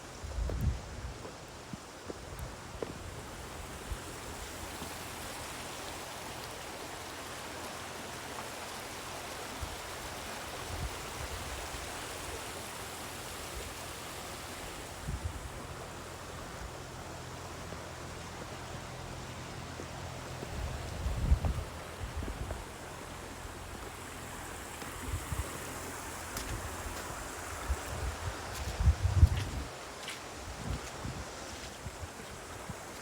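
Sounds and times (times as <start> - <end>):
stream flowing: 1.2 - 33.0.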